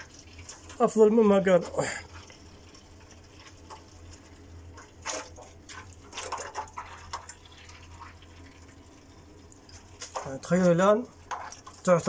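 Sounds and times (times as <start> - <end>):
low steady hum: 0.0 - 12.0
oil trickling: 0.0 - 12.0.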